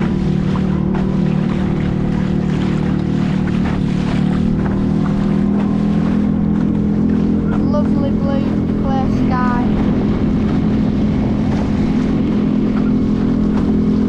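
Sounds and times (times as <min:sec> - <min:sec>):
boat engine droning: 0:00.0 - 0:14.0
water splashing: 0:00.0 - 0:14.0
wind noise: 0:00.0 - 0:14.0.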